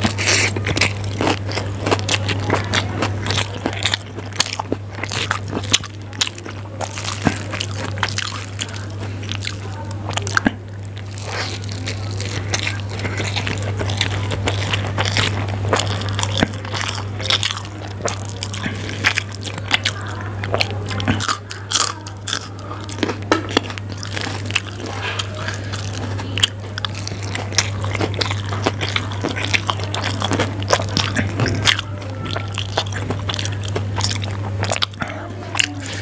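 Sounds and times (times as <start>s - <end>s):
steady low hum: 0.0s - 36.0s
wet chewing sounds: 0.0s - 36.0s.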